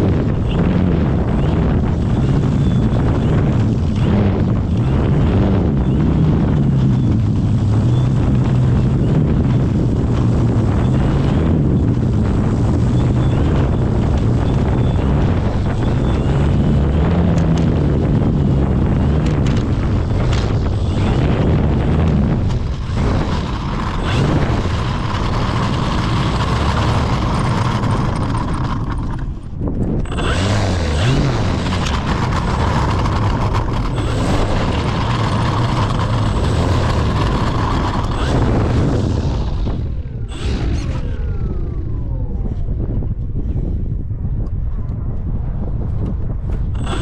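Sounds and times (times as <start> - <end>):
model airplane motor whine: 0.0 - 43.6, 46.8 - 47.0
wind buffeting microphone: 0.0 - 47.0.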